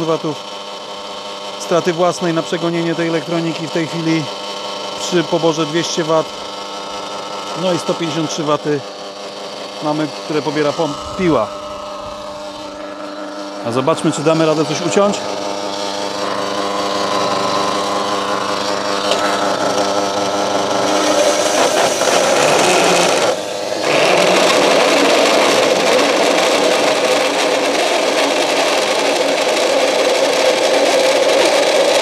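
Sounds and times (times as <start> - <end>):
electric bench saw humming: 0.0 - 32.0
saw cutting wood: 0.0 - 32.0.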